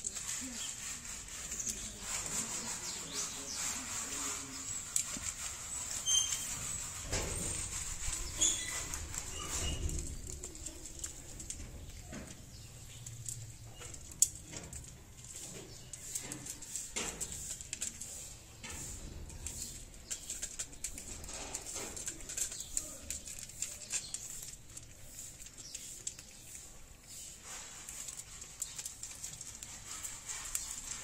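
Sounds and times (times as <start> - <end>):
cats crunching dry kibble: 0.0 - 31.0.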